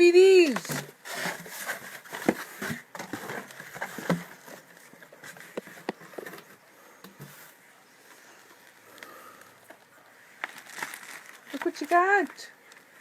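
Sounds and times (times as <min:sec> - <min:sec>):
packaging rustling: 0:00.2 - 0:06.6, 0:08.6 - 0:13.0.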